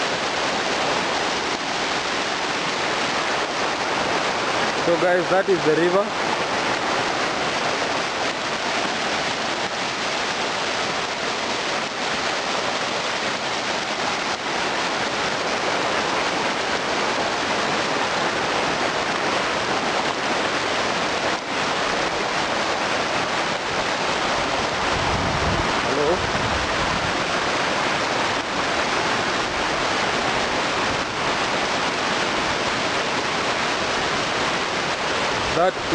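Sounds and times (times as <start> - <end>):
river water rushing: 0.0 - 35.9.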